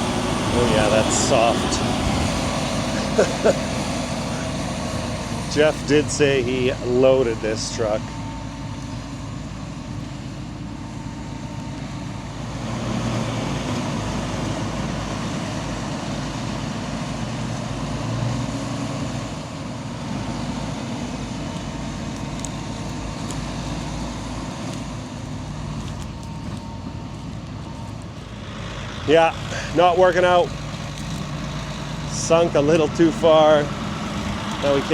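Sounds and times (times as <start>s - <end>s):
heavy vehicle engine under load: 0.0s - 34.9s.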